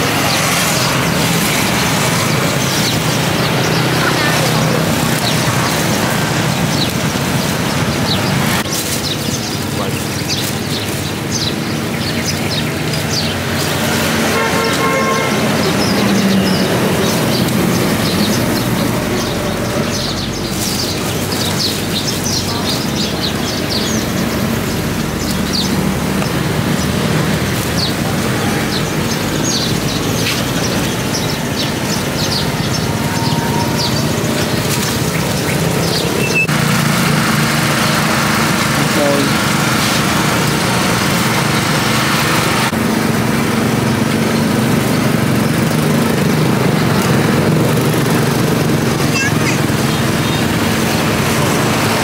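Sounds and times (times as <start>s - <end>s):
traffic engine hum: 0.0s - 52.0s.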